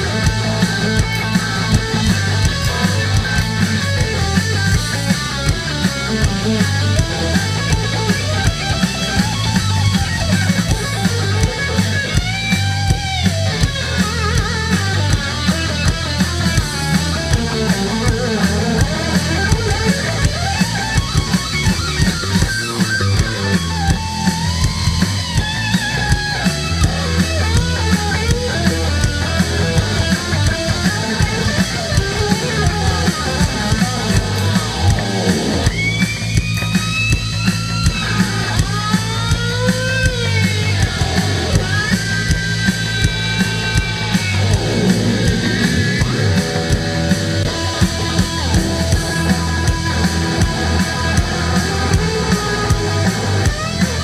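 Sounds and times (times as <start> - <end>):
bass and drums: 0.0 - 54.0
electric guitar lead: 0.0 - 54.0.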